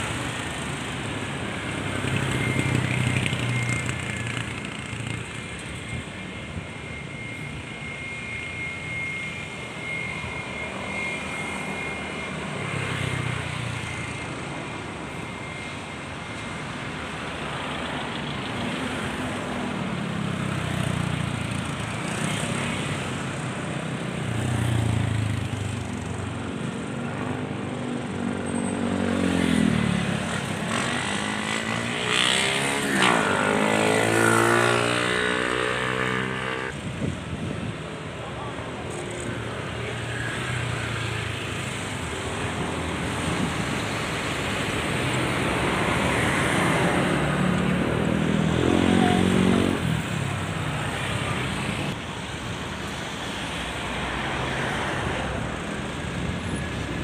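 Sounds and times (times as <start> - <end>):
aircraft engine rushing: 0.0 - 57.0.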